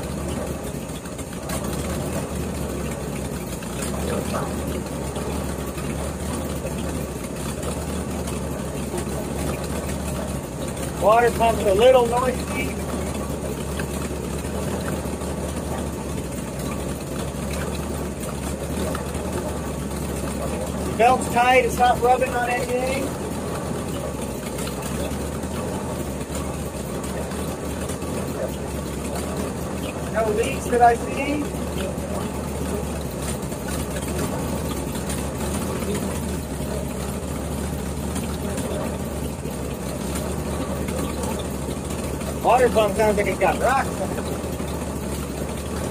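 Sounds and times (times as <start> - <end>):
rattling water pump: 0.0 - 45.9
truck engine idling: 0.0 - 45.9.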